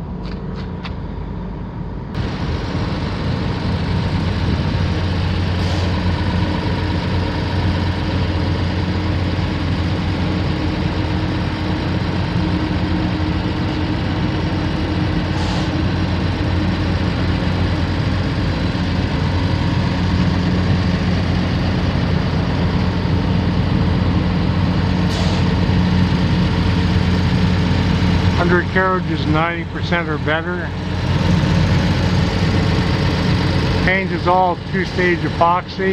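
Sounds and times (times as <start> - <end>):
excavator diesel engine idling: 2.2 - 35.9.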